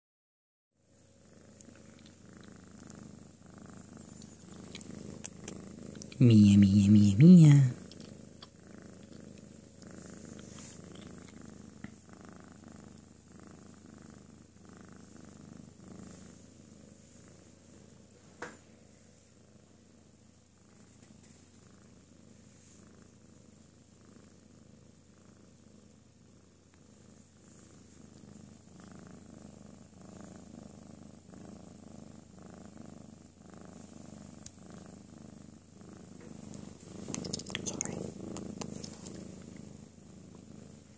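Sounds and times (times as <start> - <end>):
cat purring: 0.8 - 40.9.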